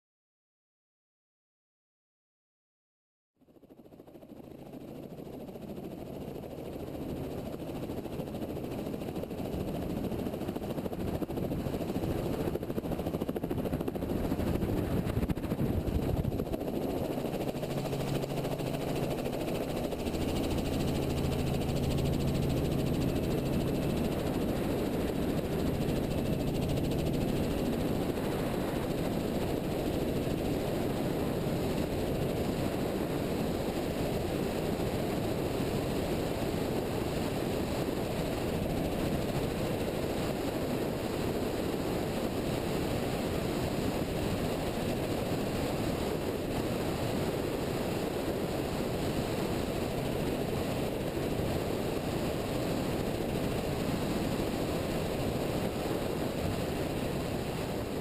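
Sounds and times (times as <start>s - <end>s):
helicopter rotor and engine rumble: 3.4s - 58.0s.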